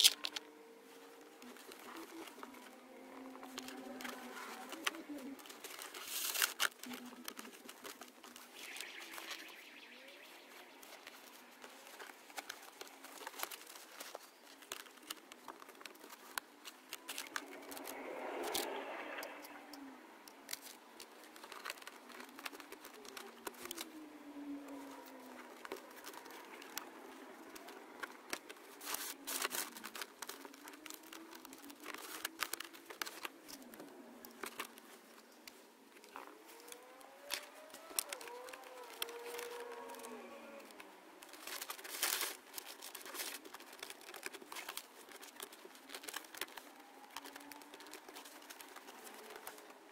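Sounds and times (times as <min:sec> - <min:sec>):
foam and wiring rustling: 0:00.0 - 0:49.9.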